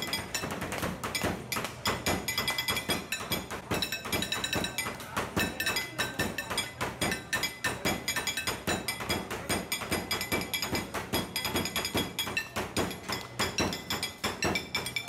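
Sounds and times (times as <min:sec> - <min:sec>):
tapping and clinking on metal: 0:00.0 - 0:15.0.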